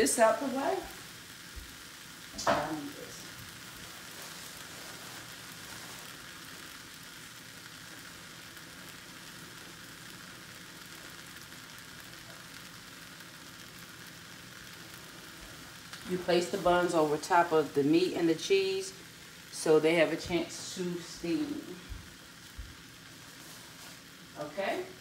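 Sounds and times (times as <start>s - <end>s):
meat sizzling on a griddle: 0.0s - 25.0s.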